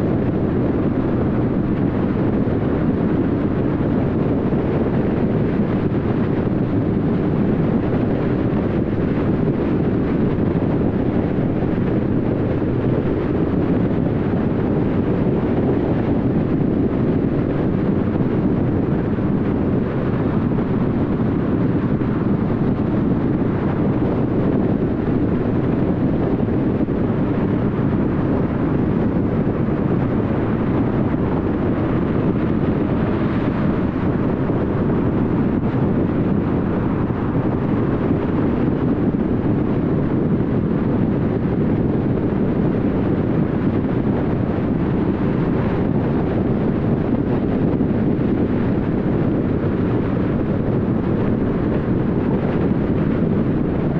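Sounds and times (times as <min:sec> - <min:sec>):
tyre and wind noise: 0:00.0 - 0:53.9.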